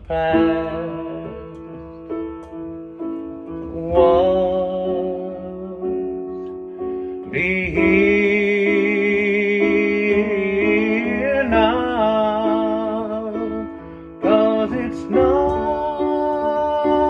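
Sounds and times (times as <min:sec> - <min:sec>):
man singing with vibrato: 0:00.0 - 0:02.1, 0:03.5 - 0:06.2, 0:07.2 - 0:17.0
sustained piano chords: 0:00.0 - 0:17.0.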